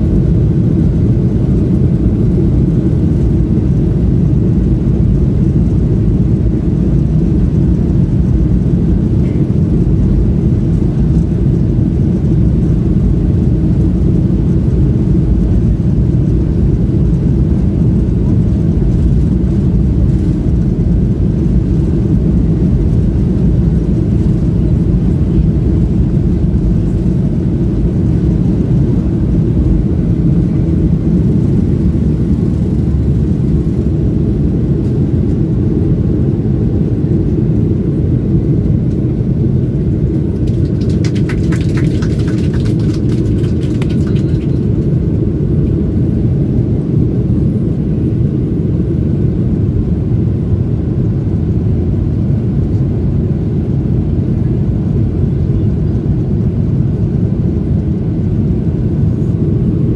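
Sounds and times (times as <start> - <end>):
jet engines and runway rumble: 0.0 - 59.9.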